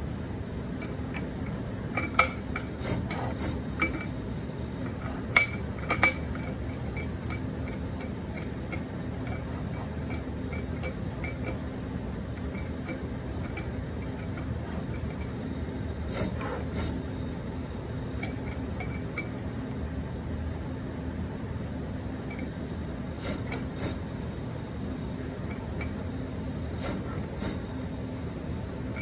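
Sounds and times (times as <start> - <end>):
plotter motors humming: 0.0 - 29.0.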